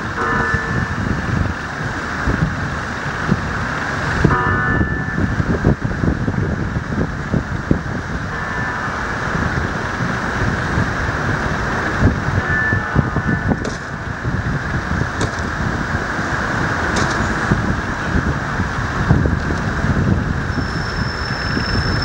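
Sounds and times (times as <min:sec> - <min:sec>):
city and river traffic rumble: 0:00.0 - 0:22.0
wind buffeting microphone: 0:00.0 - 0:22.0.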